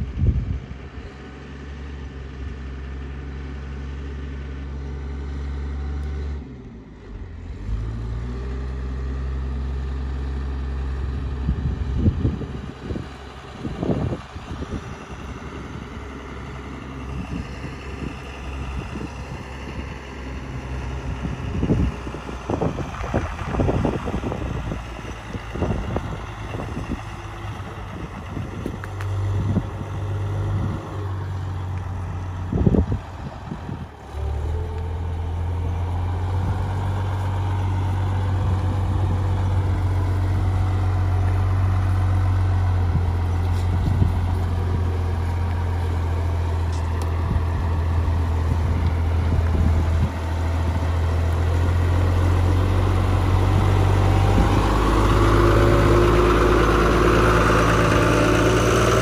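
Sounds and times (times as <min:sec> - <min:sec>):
tractor engine hum: 0:00.0 - 0:59.0.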